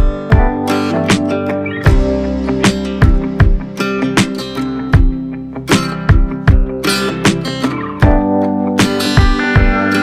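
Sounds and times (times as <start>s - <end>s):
steady beat: 0.0s - 10.0s
strummed acoustic guitar: 0.0s - 10.0s.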